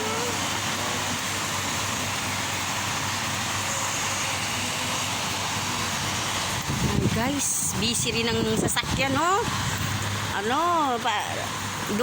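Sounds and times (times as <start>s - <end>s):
heavy rain in strong wind: 0.0s - 12.0s.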